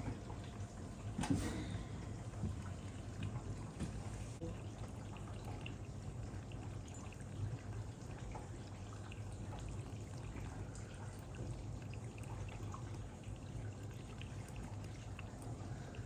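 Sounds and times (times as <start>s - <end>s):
water trickling: 0.0s - 1.2s, 1.8s - 16.0s.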